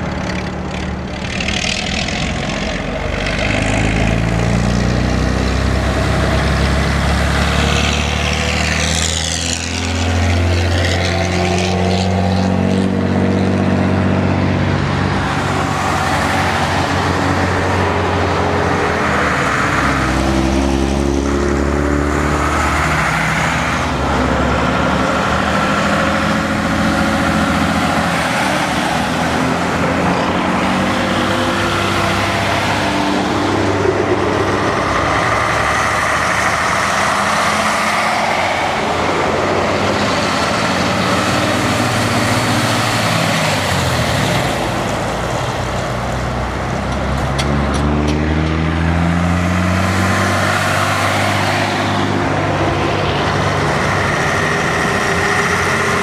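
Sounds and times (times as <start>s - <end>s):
diesel truck engines pulling hard: 0.0s - 56.0s.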